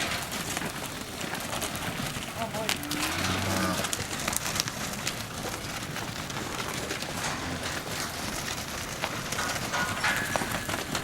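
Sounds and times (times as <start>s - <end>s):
cattle hooves on ground: 0.0s - 11.0s.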